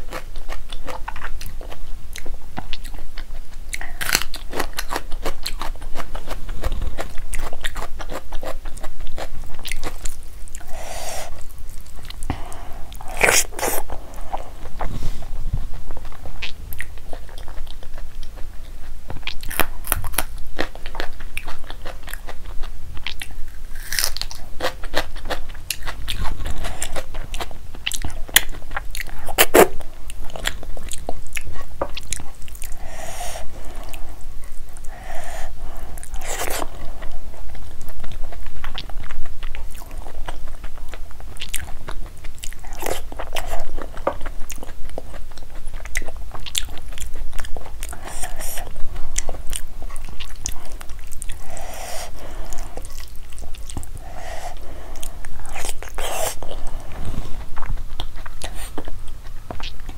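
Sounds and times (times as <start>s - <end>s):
crunching raw vegetables: 0.0s - 59.9s
steady chewing: 0.0s - 59.9s.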